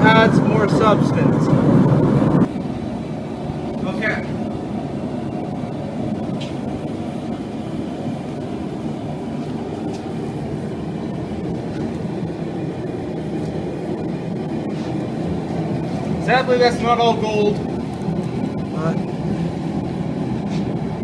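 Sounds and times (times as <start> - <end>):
furnace burner roaring: 0.0 - 21.0.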